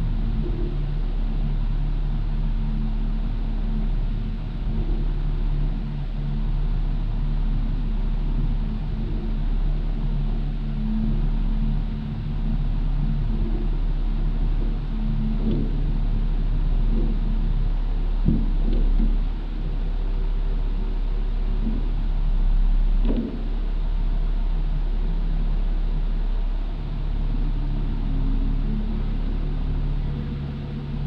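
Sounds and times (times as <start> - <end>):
engine idling drone: 0.0 - 31.0.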